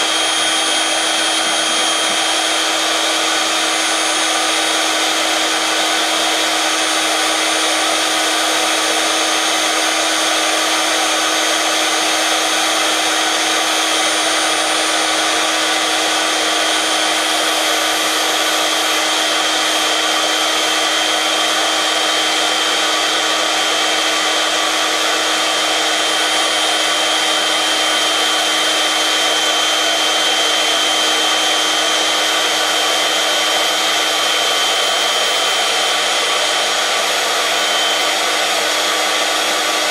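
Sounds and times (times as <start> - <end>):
electric air pump whining: 0.0 - 39.9.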